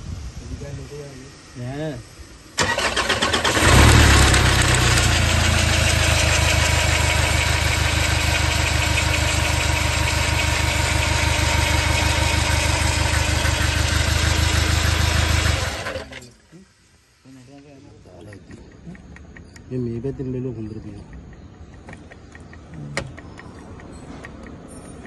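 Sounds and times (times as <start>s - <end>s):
diesel engine ticking clatter: 2.7s - 16.2s, 18.2s - 25.0s.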